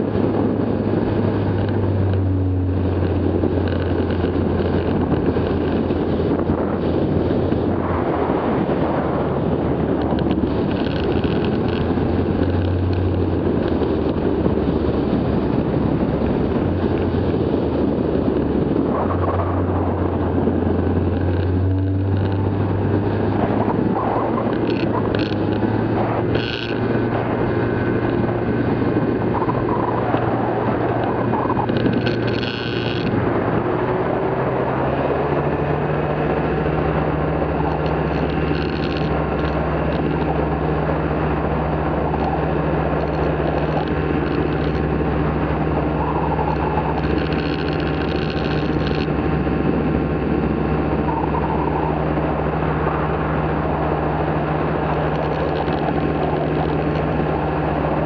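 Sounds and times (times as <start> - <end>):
aircraft motor and propeller hum: 0.0 - 58.0
wind rush over microphone: 0.0 - 58.0.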